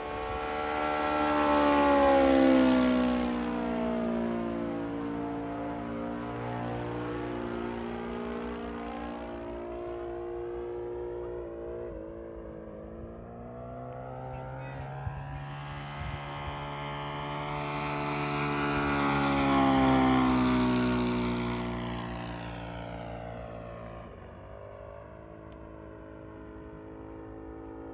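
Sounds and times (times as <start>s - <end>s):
model airplane engine: 0.0s - 27.9s.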